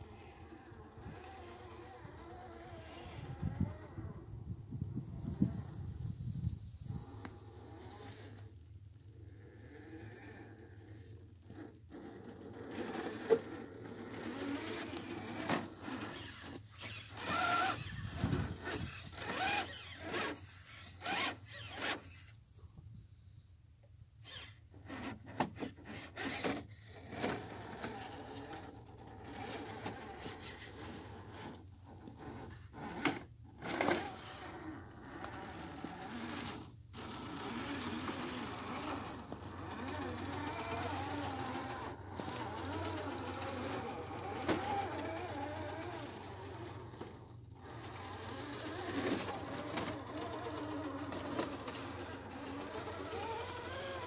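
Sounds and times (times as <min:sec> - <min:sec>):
electric motor and gear whine: 0:00.0 - 0:22.4, 0:24.2 - 0:54.0
sharp clicks and scrapes: 0:05.2 - 0:22.4, 0:24.2 - 0:54.0.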